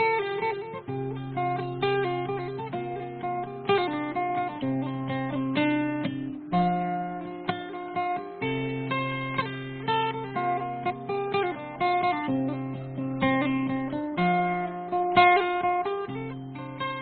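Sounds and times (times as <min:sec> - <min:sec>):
acoustic guitar melody: 0:00.0 - 0:17.0.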